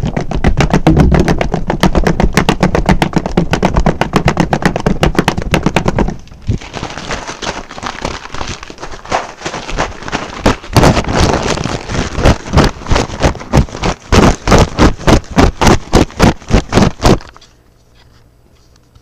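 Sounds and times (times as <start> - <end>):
rapid knocks or bangs: 0.0 - 17.4
rough rattling noise: 0.0 - 17.4.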